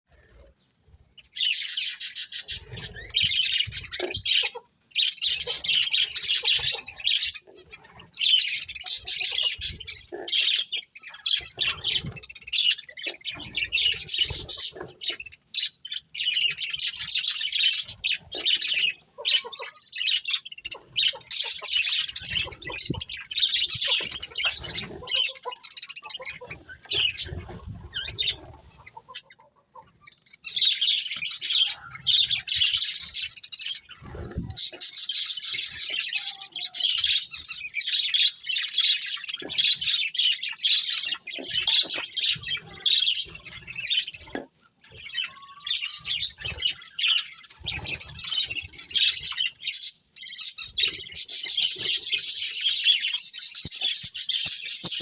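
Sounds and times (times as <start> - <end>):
budgerigars chirping and chattering: 0.1 - 55.0.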